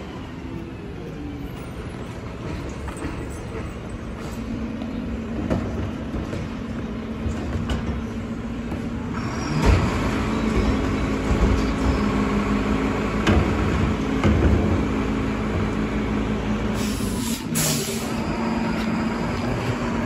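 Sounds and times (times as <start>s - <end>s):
garbage truck engine running: 3.1s - 20.0s.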